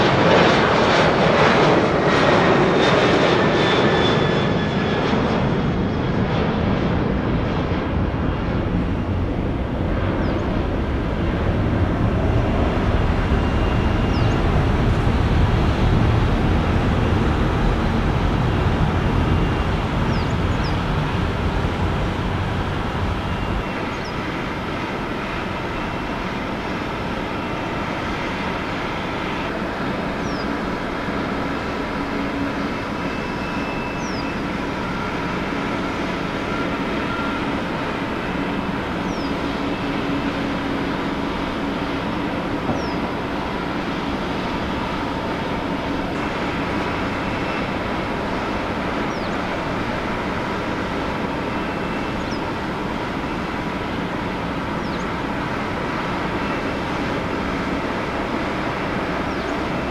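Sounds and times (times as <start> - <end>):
jet engine rush: 0.0 - 59.9.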